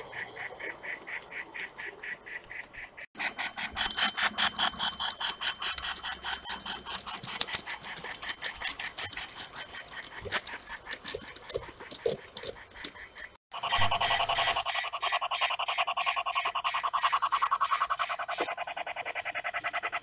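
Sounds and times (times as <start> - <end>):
model train wheels clicking: 0.0 - 20.0.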